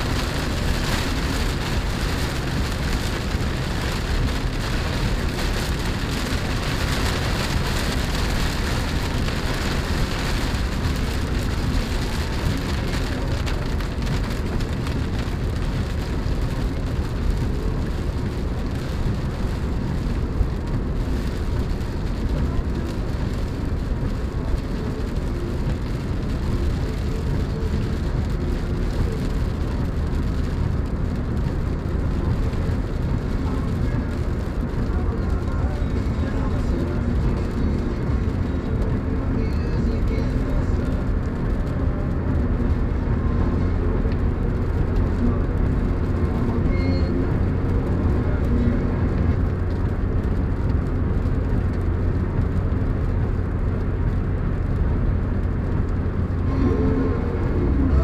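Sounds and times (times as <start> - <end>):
car road noise inside cabin: 0.0 - 58.0.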